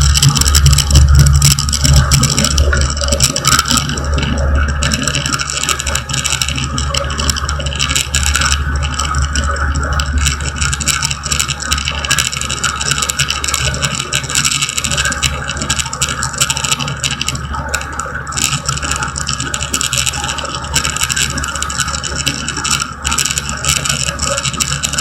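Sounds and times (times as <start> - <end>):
crackling and rattling: 0.0 - 25.0.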